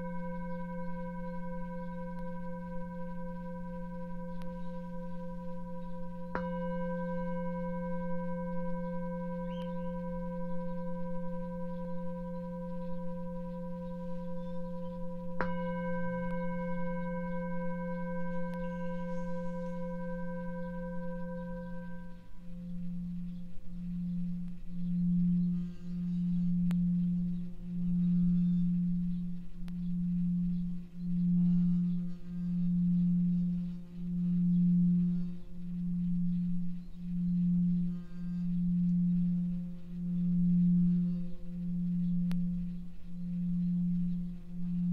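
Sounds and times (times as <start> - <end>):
singing bowl struck with mallet: 0.0 - 44.9.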